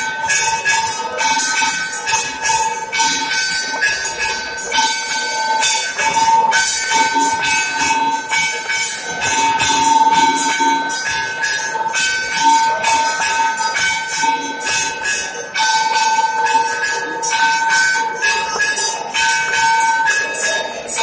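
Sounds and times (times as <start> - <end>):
bells and cymbals ringing: 0.0 - 21.0.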